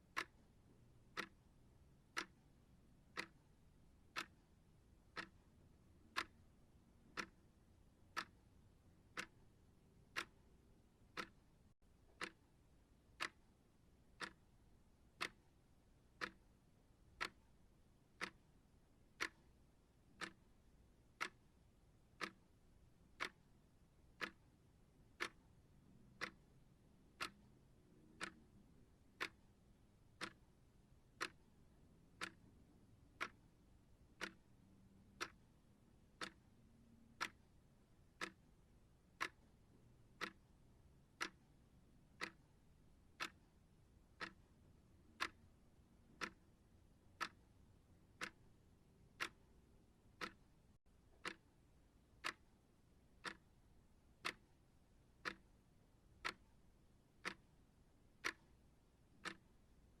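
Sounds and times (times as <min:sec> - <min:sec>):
clock ticking: 0:00.0 - 1:00.0.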